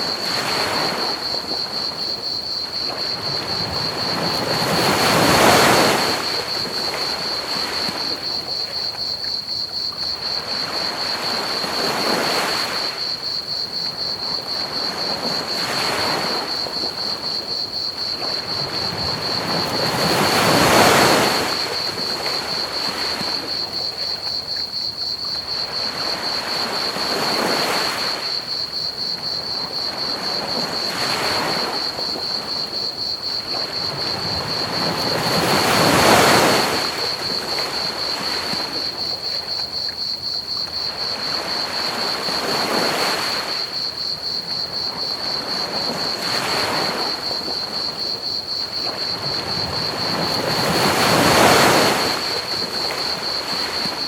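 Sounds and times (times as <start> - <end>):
crickets chirping: 0.0 - 54.0
ocean waves washing onto beach: 0.0 - 54.0.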